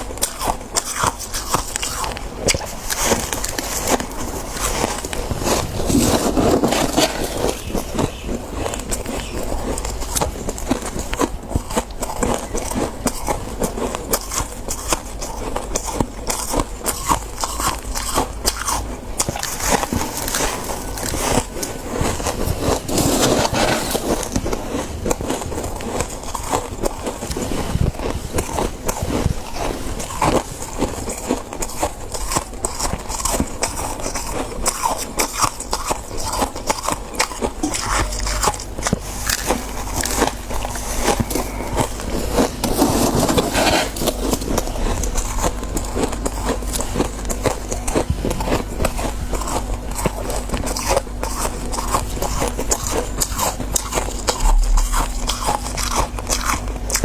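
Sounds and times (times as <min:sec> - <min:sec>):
chewing frost crunches: 0:00.0 - 0:57.0.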